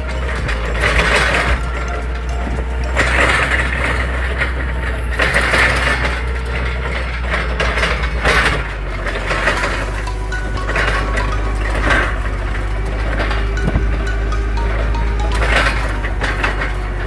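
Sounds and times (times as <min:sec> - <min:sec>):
diesel engine humming: 0:00.0 - 0:17.0
rattling noise: 0:00.0 - 0:17.0.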